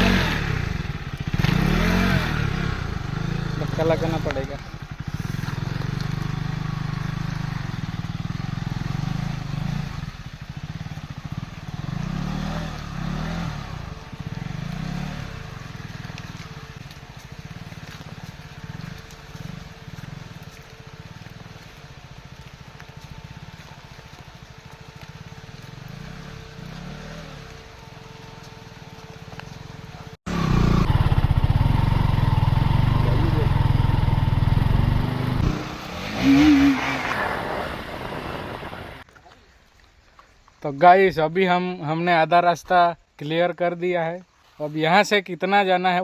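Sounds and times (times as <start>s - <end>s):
motorcycle engine revving: 0.0s - 39.1s.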